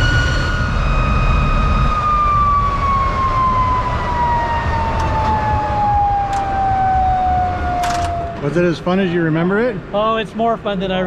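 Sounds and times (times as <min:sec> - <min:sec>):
jet engine whine winding down: 0:00.0 - 0:09.9
low engine rumble: 0:00.0 - 0:11.0.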